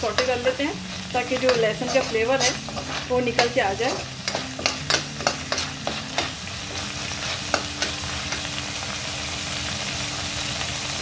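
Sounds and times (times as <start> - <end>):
spatula scraping wok: 0.0 - 8.8
garlic sizzling in oil: 0.0 - 11.0.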